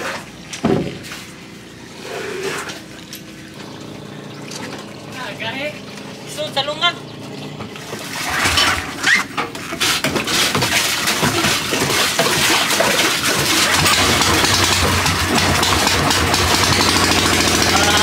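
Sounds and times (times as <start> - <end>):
gasoline engine starting and running: 0.0 - 18.0.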